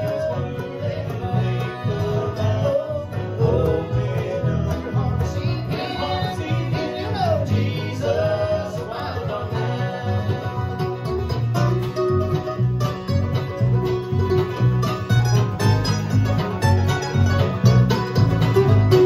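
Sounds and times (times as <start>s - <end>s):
acoustic guitars: 0.0s - 19.0s
banjo: 0.0s - 19.0s
fiddle: 0.0s - 19.0s
upright bass: 0.0s - 19.0s.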